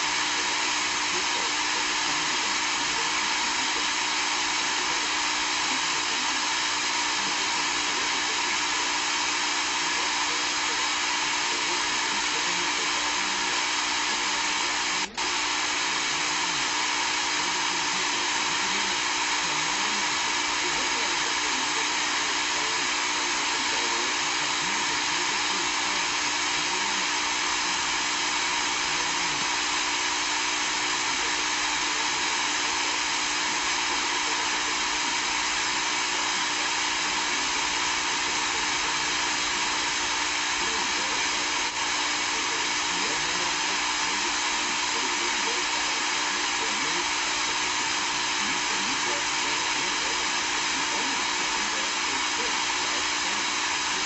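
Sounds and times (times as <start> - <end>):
whirring hiss with hum: 0.0 - 54.0.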